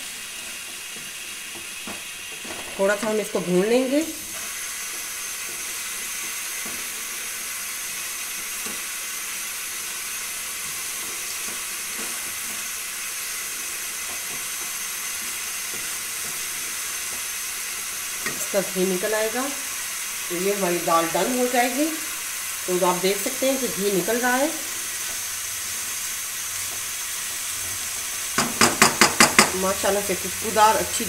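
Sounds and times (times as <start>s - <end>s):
lentils sizzling in ghee: 0.0s - 31.0s.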